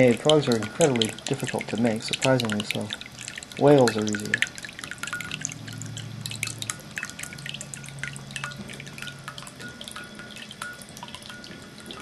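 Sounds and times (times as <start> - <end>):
water drips and splashes: 0.0 - 12.0
water trickling into bowl: 0.0 - 12.0.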